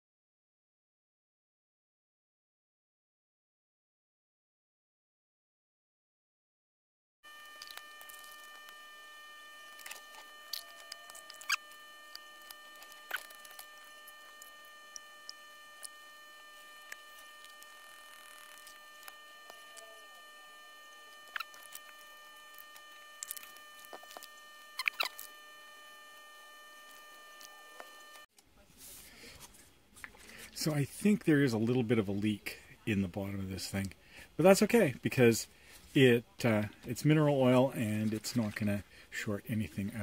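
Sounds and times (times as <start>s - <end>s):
faint electrical whine: 7.2s - 40.0s.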